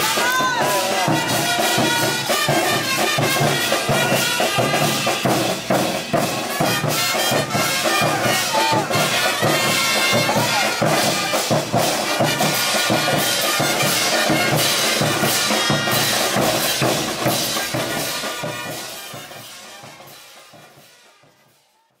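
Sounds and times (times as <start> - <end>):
steady drum beat: 0.0 - 22.0
wind instruments: 0.0 - 22.0.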